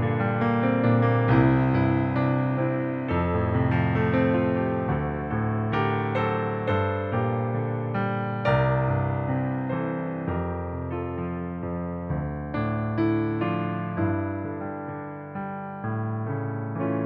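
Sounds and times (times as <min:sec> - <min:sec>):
slow minor-key piano hymn: 0:00.0 - 0:17.0.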